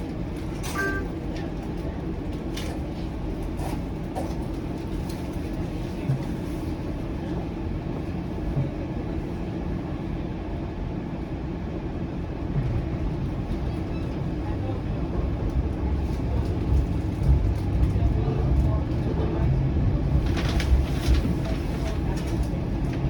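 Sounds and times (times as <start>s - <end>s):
streetcar wheels rumbling on rail: 0.0s - 23.0s.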